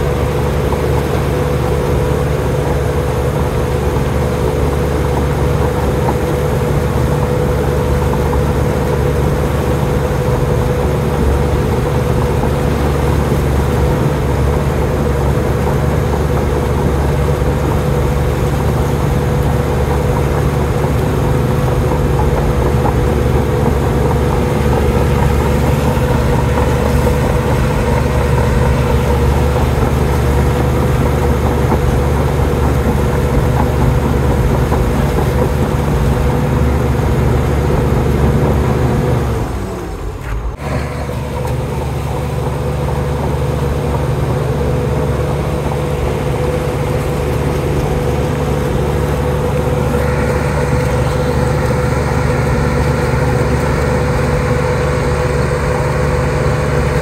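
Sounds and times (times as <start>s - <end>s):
bulldozer diesel engine running: 0.0s - 57.0s
steady whine: 0.0s - 57.0s.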